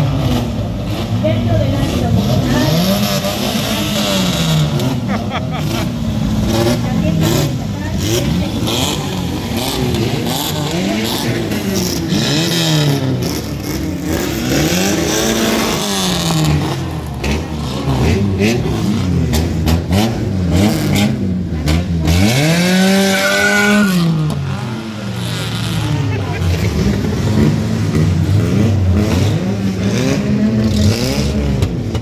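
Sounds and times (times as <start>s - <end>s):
engines revving: 0.0s - 32.0s.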